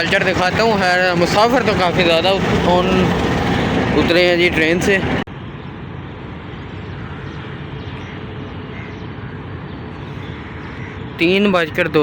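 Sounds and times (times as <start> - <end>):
railway platform rumble and hiss: 0.0 - 12.0.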